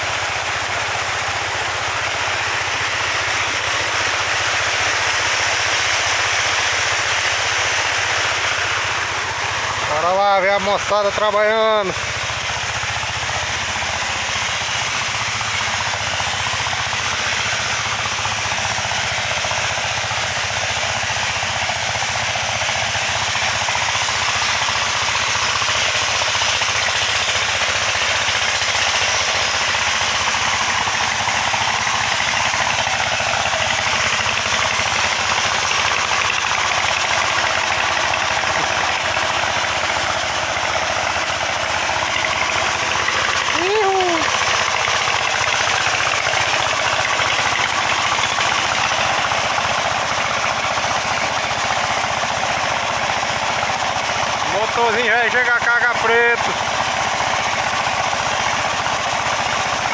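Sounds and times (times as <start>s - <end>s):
water pump engine chugging: 0.0s - 59.9s.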